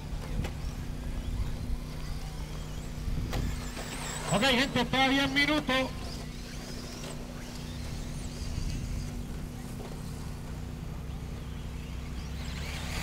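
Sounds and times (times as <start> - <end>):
high gliding motor whine: 0.0 - 13.0
steady low hum: 0.0 - 13.0.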